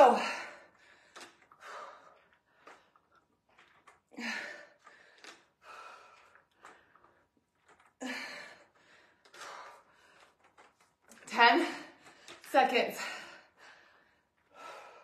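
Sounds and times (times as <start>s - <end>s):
woman breathing hard: 0.0s - 10.7s, 11.7s - 15.0s.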